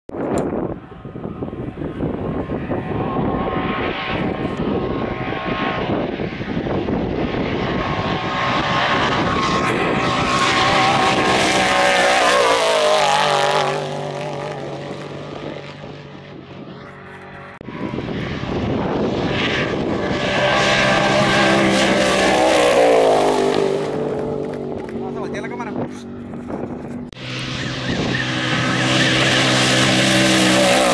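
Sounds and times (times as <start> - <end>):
trucks passing at high speed: 0.2 - 30.9.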